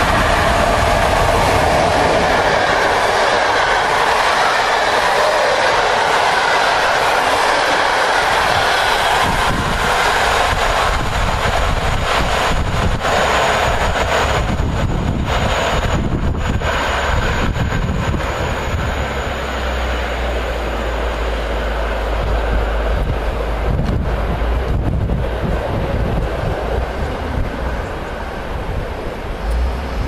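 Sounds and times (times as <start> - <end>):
train running past: 0.0 - 30.0
wind buffeting microphone: 0.0 - 30.0.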